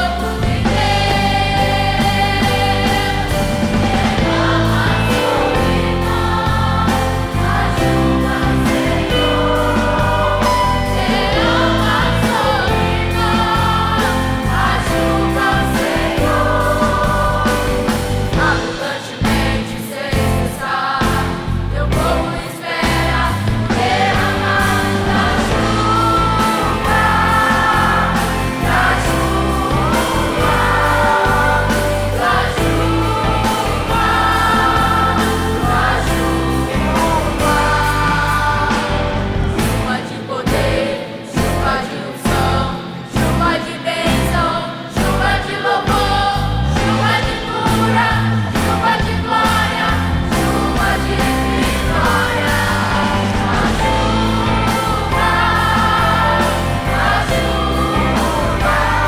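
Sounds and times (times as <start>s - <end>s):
choir singing worship song: 0.0s - 59.0s
instrumental accompaniment with bass: 0.0s - 59.0s.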